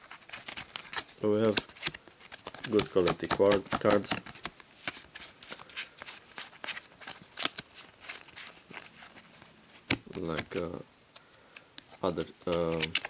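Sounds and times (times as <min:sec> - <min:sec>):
playing cards flipping: 0:00.0 - 0:10.8, 0:11.5 - 0:13.0.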